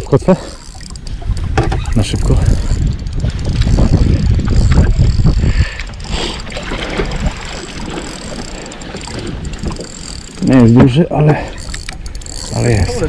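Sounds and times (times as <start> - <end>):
water noise: 0.0 - 13.0
wind buffeting microphone: 0.0 - 13.0.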